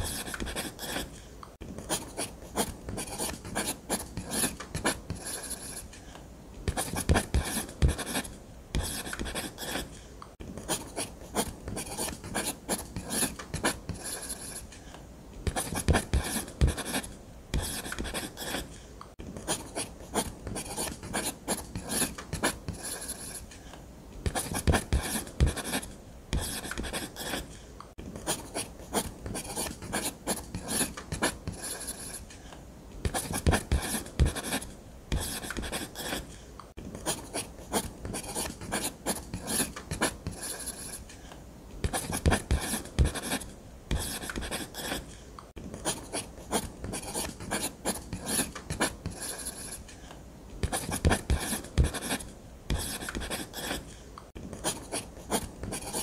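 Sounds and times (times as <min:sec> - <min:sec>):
pencil strokes scratching on paper: 0:00.0 - 0:01.2, 0:01.8 - 0:14.8, 0:15.5 - 0:23.6, 0:24.2 - 0:27.6, 0:28.2 - 0:32.4, 0:33.0 - 0:41.1, 0:41.8 - 0:49.9, 0:50.6 - 0:56.0.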